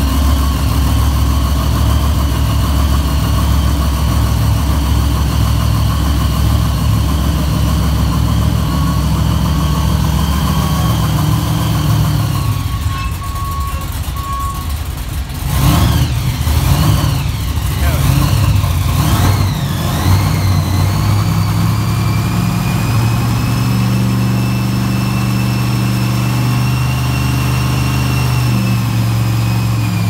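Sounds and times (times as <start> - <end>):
truck engine running low: 0.0 - 30.0.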